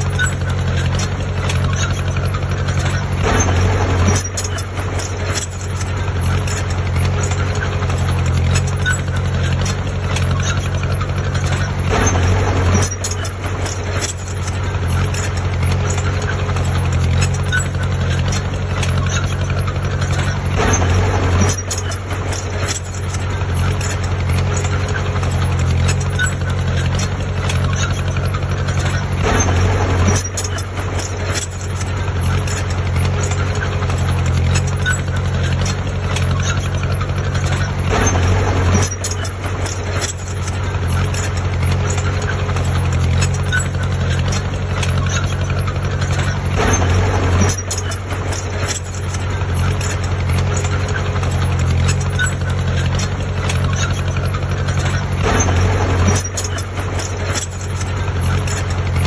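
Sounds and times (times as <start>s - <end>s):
diesel engine humming: 0.0s - 59.0s
rattling noise: 0.0s - 59.0s.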